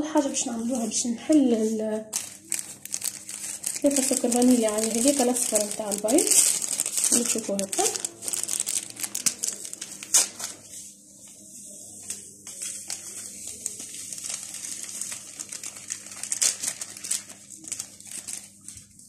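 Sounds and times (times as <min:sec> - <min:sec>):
sugar sachets crinkling: 0:00.3 - 0:10.8, 0:12.0 - 0:19.0.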